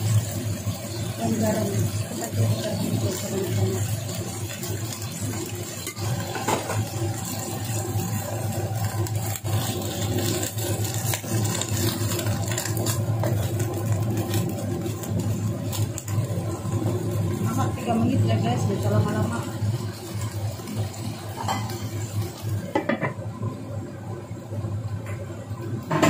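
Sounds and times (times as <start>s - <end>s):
greens frying: 0.0s - 26.0s.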